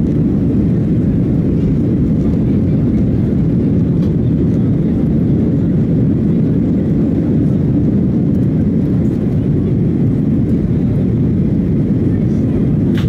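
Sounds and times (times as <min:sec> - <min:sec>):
jet engines at takeoff thrust: 0:00.0 - 0:13.0
wheels rumbling on runway: 0:00.0 - 0:13.0.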